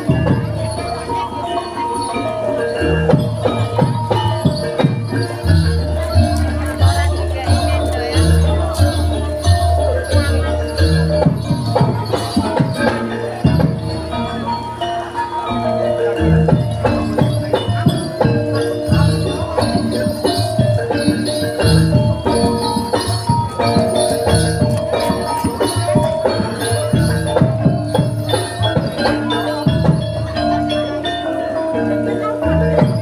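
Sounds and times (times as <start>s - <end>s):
low drum beat: 0.0s - 1.0s, 2.4s - 14.4s, 16.2s - 30.8s
jingling bells: 0.0s - 33.0s
mallet percussion ringing notes: 0.0s - 33.0s.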